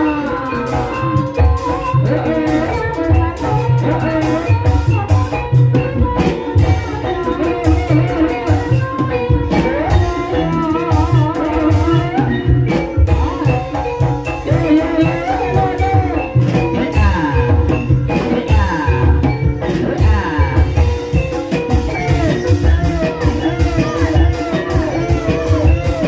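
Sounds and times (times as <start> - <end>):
gamelan music: 0.0 - 26.0
ringing metallophone tones: 0.0 - 26.0.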